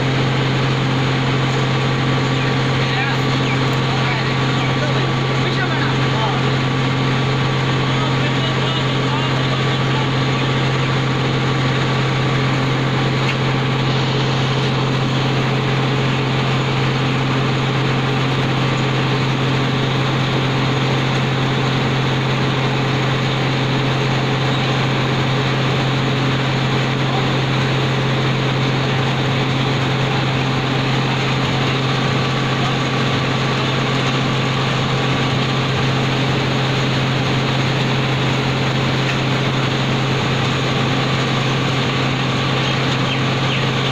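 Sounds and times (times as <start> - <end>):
machine hum: 0.0 - 43.9.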